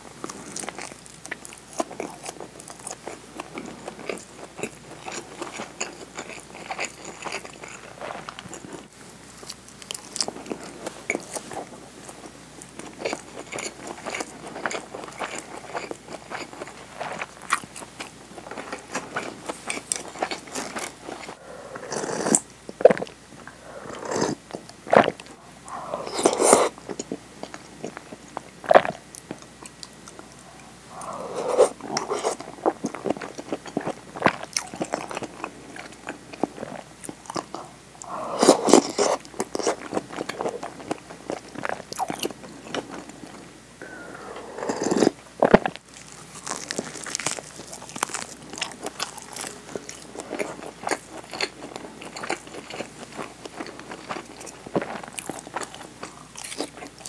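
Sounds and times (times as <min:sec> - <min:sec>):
chewing rice ball: 0:00.2 - 0:57.0.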